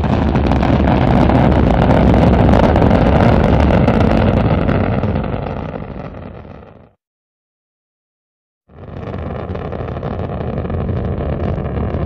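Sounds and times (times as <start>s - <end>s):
rocket engine roaring: 0.0s - 7.0s, 8.7s - 12.0s.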